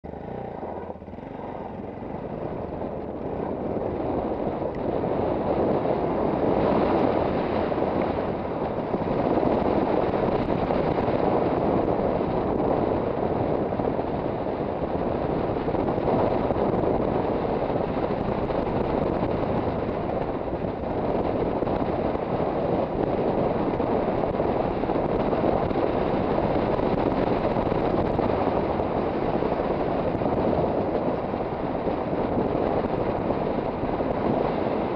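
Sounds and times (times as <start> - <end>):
single-cylinder motorcycle engine: 0.0 - 34.9
wind rushing over microphone: 0.0 - 34.9.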